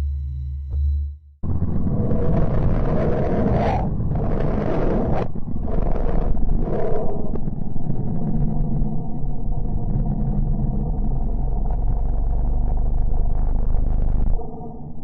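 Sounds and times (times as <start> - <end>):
deep rumbling roar: 1.4 - 15.0.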